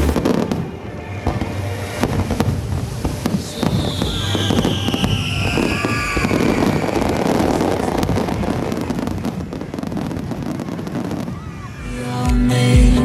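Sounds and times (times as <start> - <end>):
fireworks cracking and banging: 0.0 - 11.9.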